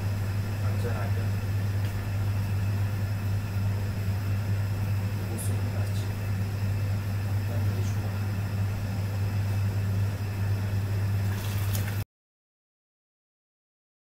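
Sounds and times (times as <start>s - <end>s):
kitchen burner and ventilation hum: 0.0s - 12.0s.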